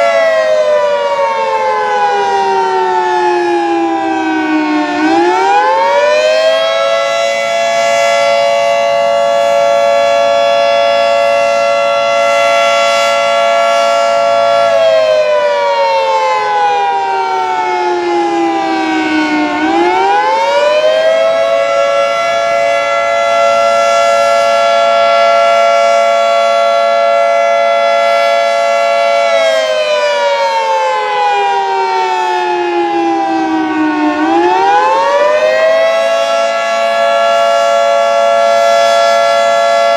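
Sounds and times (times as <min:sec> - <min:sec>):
fire siren wailing: 0:00.0 - 0:39.9.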